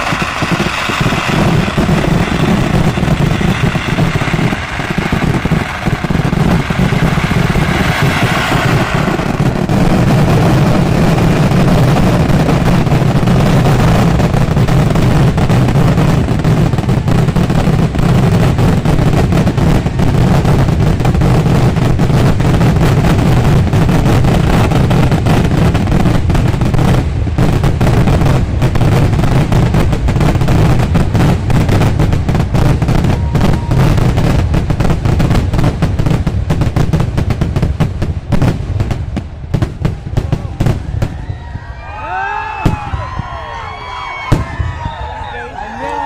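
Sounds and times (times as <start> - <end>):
fireworks exploding: 0.0 - 46.0.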